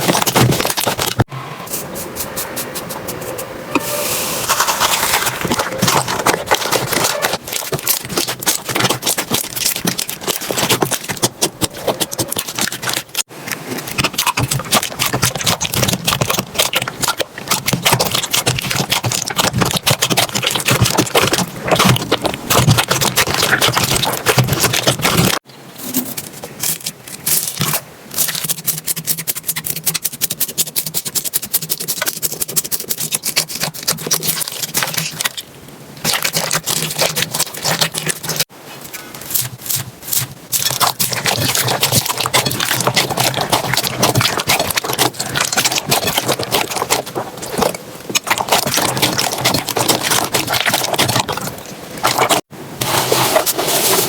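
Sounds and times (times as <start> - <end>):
slime crackling and popping: 4.5 - 25.4, 26.6 - 35.4, 36.0 - 38.5, 39.3 - 52.5.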